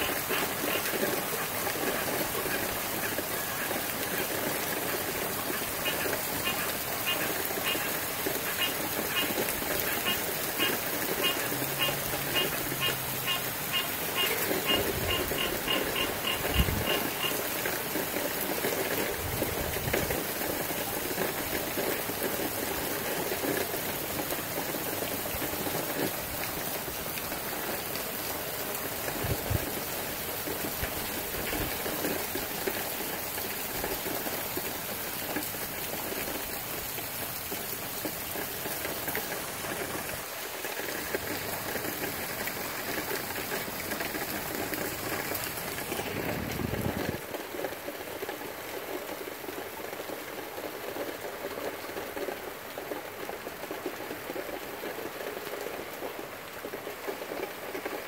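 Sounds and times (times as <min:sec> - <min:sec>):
heavy rain: 0:00.0 - 0:58.0
wind: 0:00.0 - 0:58.0.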